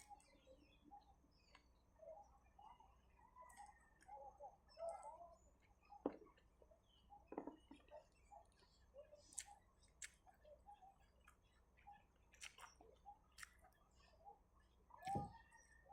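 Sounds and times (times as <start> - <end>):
chewing food: 0.0 - 0.4, 3.2 - 15.8.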